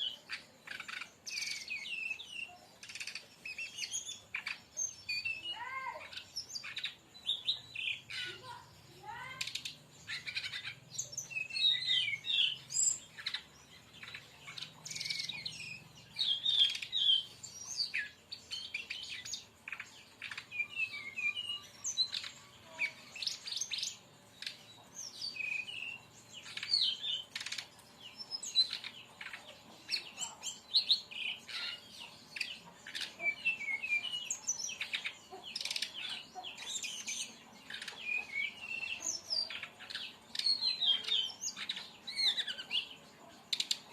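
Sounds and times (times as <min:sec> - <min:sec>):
bird chirping and trilling: 0:00.0 - 0:43.9.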